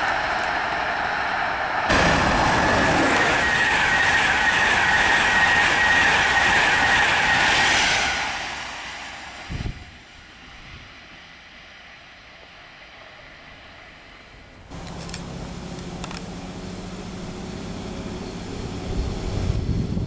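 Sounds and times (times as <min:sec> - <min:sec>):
train wheels rushing on rail: 0:00.0 - 0:20.0.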